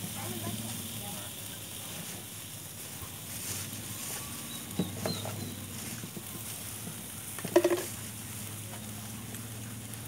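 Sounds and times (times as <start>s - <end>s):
chicken sizzling on a grill: 0.0s - 10.0s.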